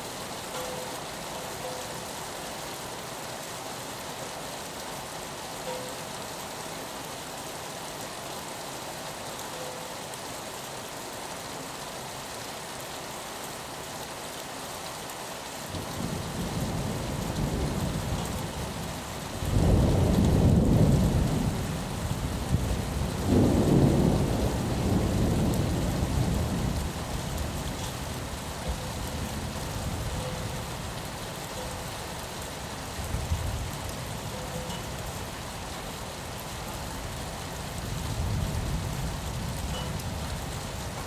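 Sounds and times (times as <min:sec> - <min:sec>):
rain hissing on a window: 0:00.0 - 0:41.0.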